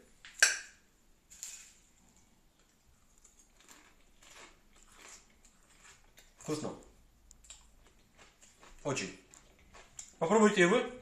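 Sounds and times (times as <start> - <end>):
crunchy chewing: 1.4 - 10.2.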